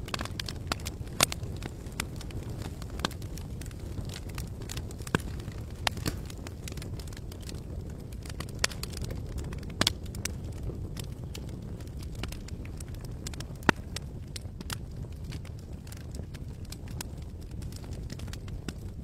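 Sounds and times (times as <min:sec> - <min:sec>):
campfire pops and snaps: 0:00.0 - 0:19.0.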